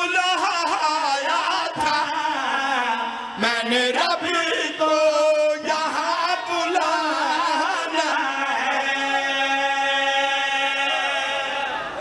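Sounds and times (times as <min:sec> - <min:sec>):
men singing without instruments: 0:00.0 - 0:11.8.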